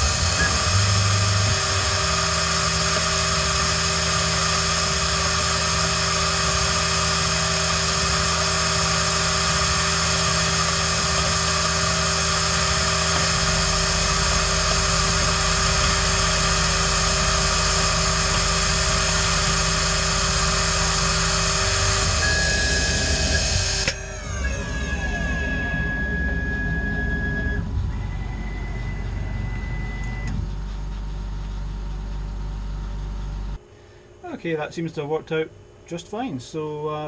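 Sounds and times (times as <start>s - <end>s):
milling machine whine and hiss: 0.0s - 30.4s
deeper hum: 0.0s - 34.1s.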